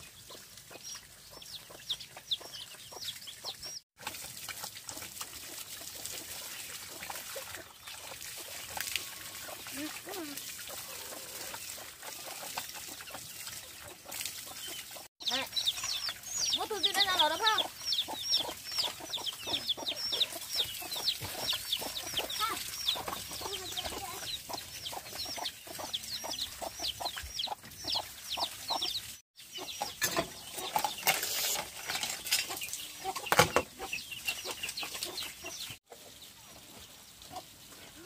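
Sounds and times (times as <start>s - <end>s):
chicks peeping: 0.0s - 3.8s, 9.4s - 37.6s.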